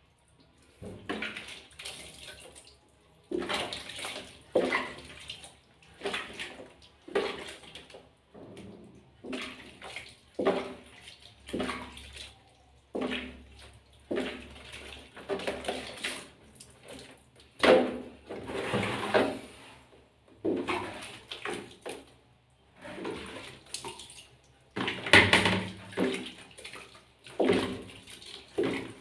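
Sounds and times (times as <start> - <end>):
water splashing in a basin: 0.1 - 19.4, 20.4 - 29.0.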